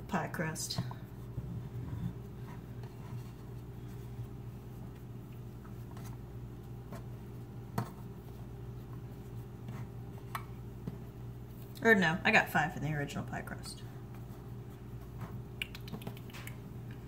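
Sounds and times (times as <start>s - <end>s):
hands rustling dough: 0.0s - 17.0s
steady low hum: 0.0s - 17.0s.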